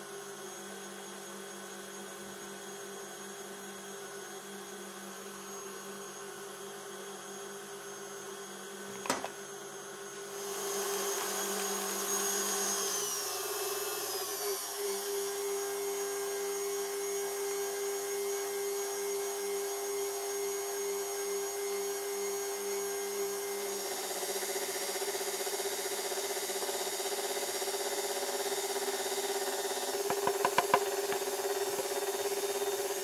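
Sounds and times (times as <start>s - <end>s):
stand mixer motor whine: 0.0s - 33.0s.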